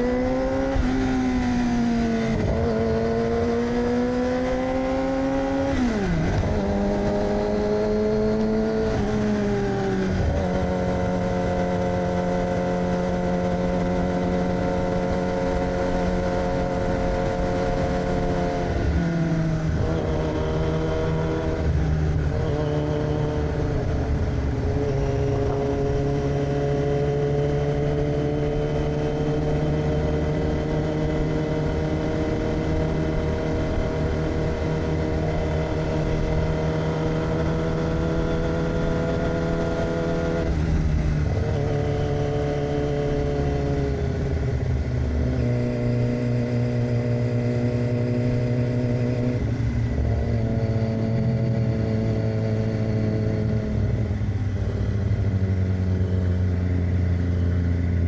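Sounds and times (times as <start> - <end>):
motorcycle engine on the road: 0.0 - 58.0.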